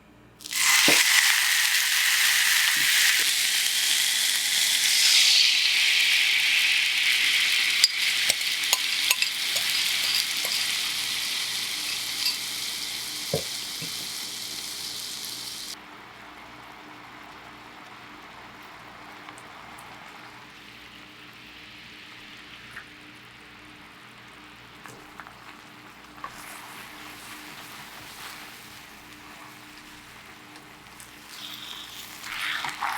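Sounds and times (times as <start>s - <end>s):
chicken sizzling in a frying pan: 0.4s - 32.9s.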